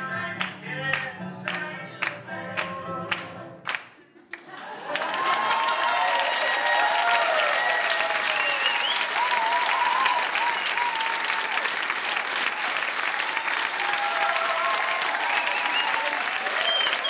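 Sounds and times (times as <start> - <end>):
audience applauding: 0.4 - 17.0.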